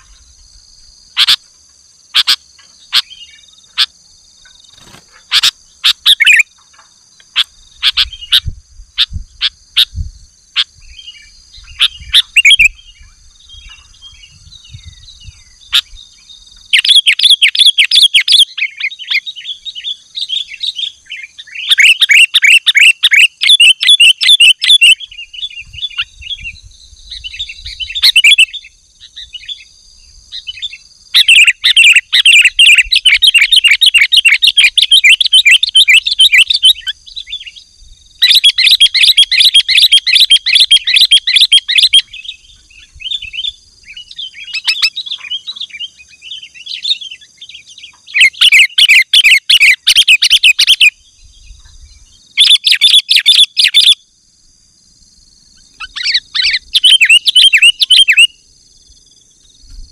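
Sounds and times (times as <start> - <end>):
birds chattering: 0.0 - 54.0, 55.6 - 58.4.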